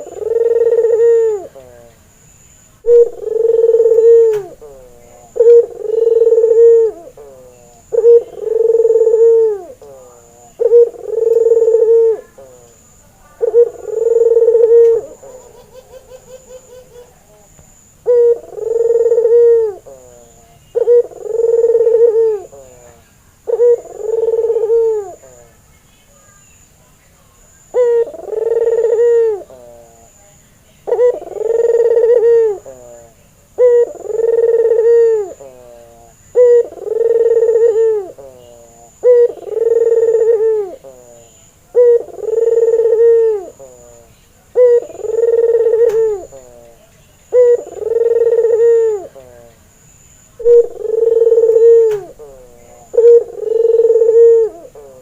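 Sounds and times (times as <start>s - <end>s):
dove cooing: 0.0s - 2.0s, 2.8s - 25.6s, 27.6s - 55.0s.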